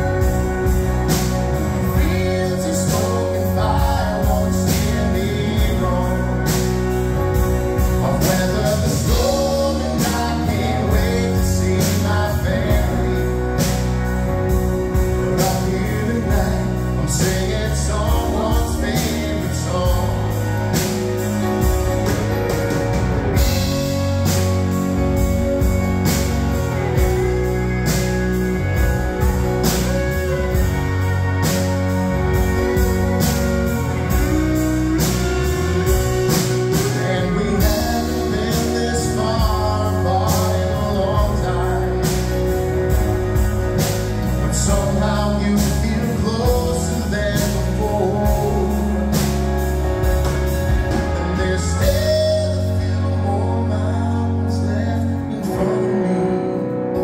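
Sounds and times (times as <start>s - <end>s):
person singing: 0.0s - 21.8s, 23.4s - 57.0s
steady drum beat: 0.0s - 53.0s
bass guitar: 0.0s - 57.0s
electric guitars: 0.0s - 57.0s.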